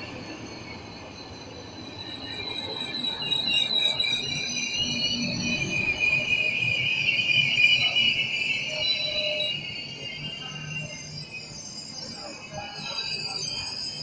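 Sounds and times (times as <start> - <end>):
metallic wheel squeal: 0.0 - 14.0.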